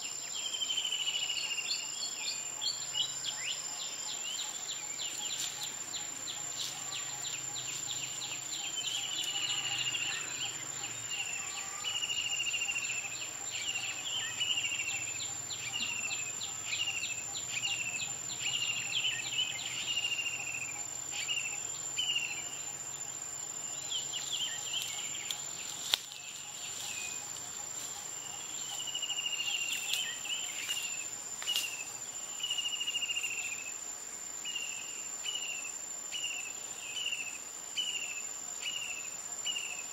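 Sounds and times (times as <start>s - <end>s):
insect chirps: 0.0s - 39.9s
insects high whine: 0.0s - 39.9s.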